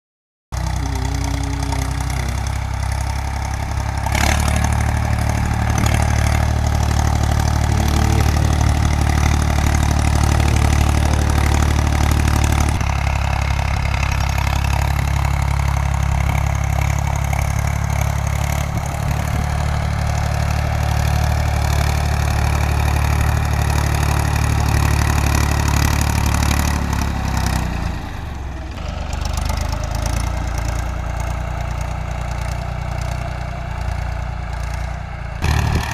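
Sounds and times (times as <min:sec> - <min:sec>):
tractor diesel engine running: 0:00.6 - 0:35.9.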